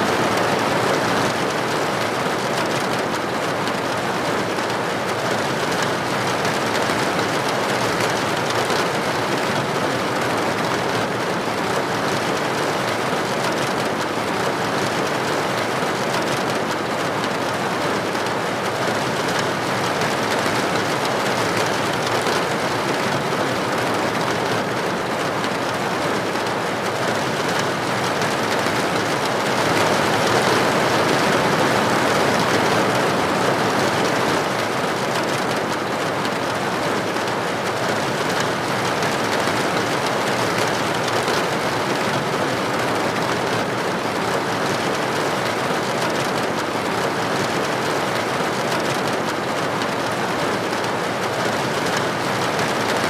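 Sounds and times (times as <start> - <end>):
rain on a hard surface: 0.1 - 53.0.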